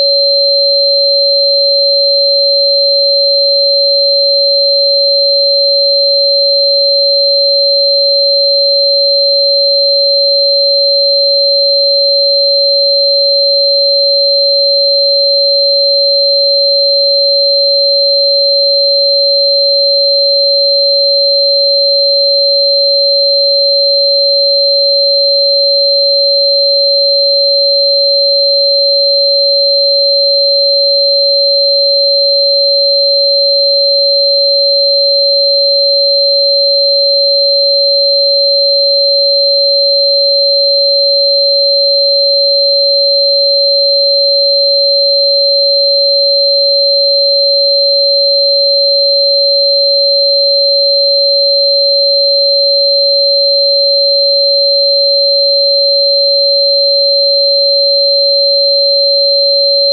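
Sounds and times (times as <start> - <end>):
mid-pitched sine tone: 0.0 - 59.9.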